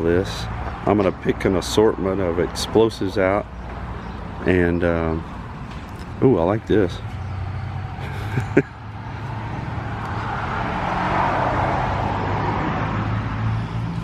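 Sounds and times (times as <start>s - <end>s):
vehicle road noise passing: 0.0s - 14.0s.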